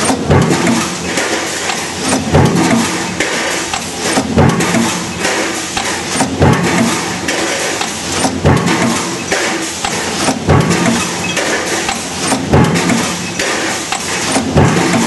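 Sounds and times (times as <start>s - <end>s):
power press stamping thud: 0.0s - 15.0s
press running noise: 0.0s - 15.0s.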